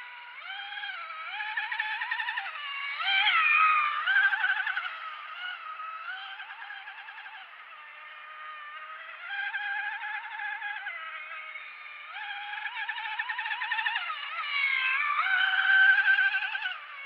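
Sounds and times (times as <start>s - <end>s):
model boat motor whine: 0.0s - 17.0s.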